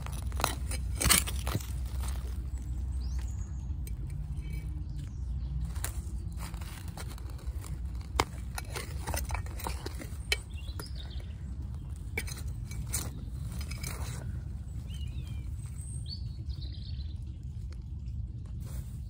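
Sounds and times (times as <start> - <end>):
hands rummaging through soil: 0.0 - 16.8, 18.5 - 19.0
roots crackling and snapping: 0.0 - 19.0.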